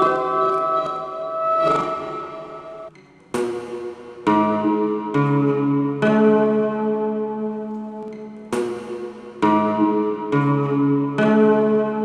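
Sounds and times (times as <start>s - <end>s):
ringing chords: 0.0s - 12.0s.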